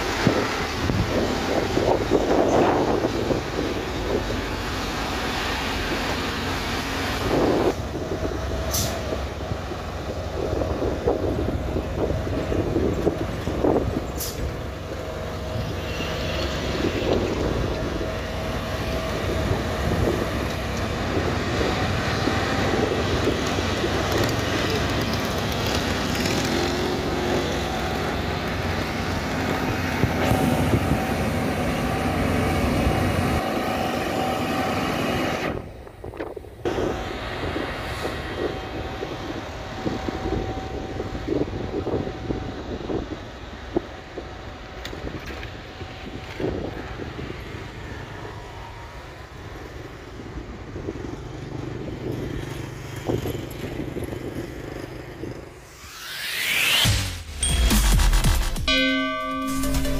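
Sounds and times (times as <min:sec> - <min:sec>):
diesel engine running: 0:00.0 - 0:58.6.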